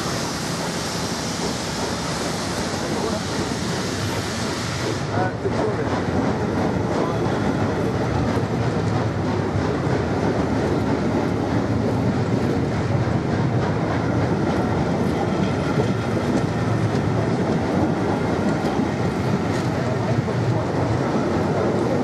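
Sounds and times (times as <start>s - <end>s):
train wheels rumbling on rails: 0.0s - 22.0s
clickety-clack over rail joints: 0.4s - 22.0s.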